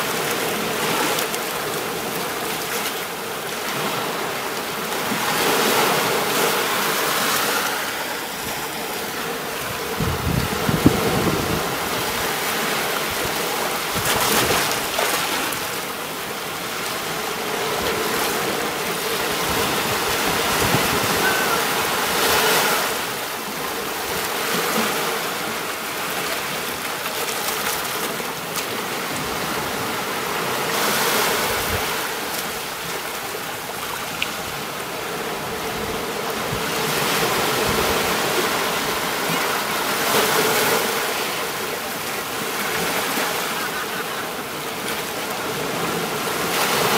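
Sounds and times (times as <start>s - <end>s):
waves breaking on beach: 0.0s - 46.9s.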